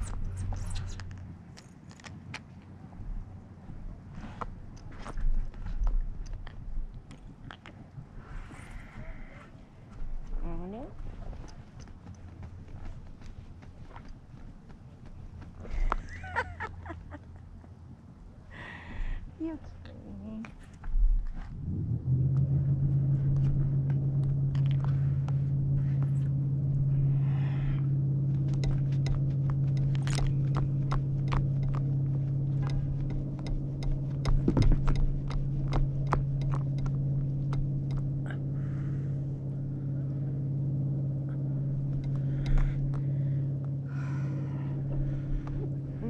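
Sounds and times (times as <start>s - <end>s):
steady engine hum: 0.0s - 46.0s.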